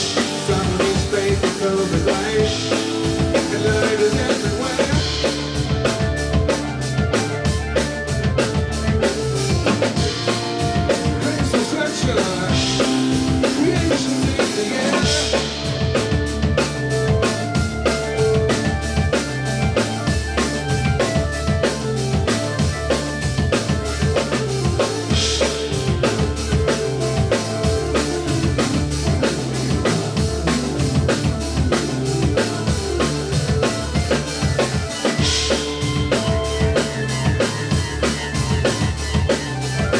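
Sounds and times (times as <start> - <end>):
drum kit steady beat: 0.0 - 39.9
live band music: 0.0 - 39.9.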